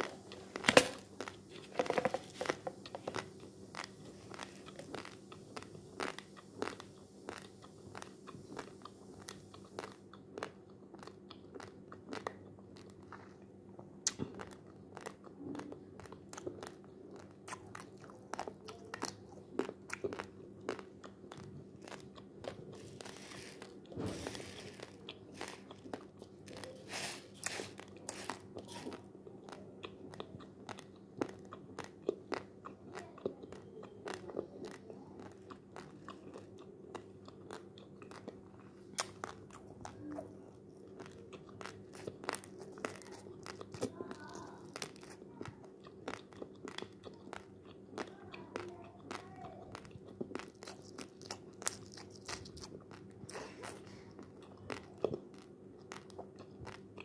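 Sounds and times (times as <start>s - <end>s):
person crunching dry rice: 0.0s - 13.2s, 14.4s - 33.3s, 34.1s - 57.0s
steady low hum: 0.0s - 48.1s.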